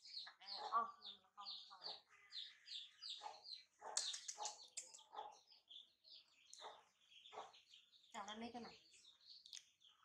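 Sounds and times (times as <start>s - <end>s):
faint bird chirping: 0.0s - 10.0s.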